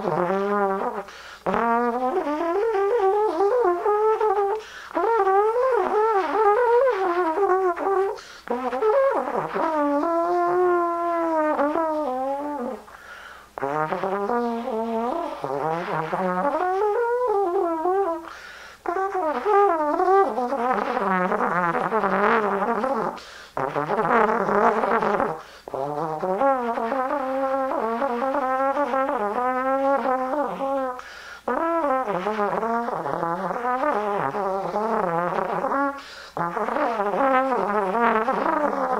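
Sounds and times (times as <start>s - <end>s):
solo trombone sliding pitch: 0.0s - 12.9s, 13.6s - 38.9s.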